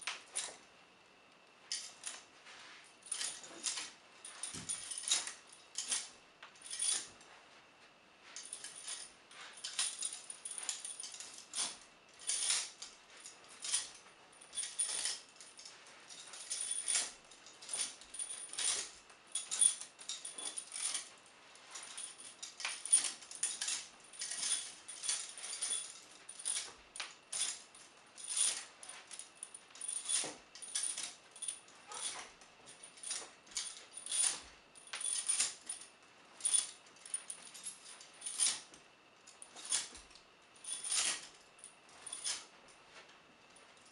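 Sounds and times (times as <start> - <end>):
shackle chains jangling: 0.0 - 0.7, 1.7 - 7.4, 8.2 - 43.9.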